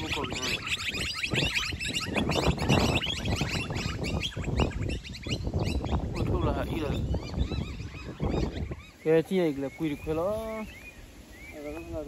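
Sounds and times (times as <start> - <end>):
birds chirping chorus: 0.0 - 12.0.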